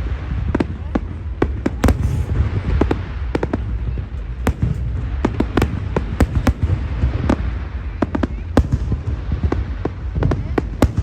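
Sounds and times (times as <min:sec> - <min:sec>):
fireworks bangs and cracks: 0:00.0 - 0:11.0
low rumble: 0:00.0 - 0:11.0.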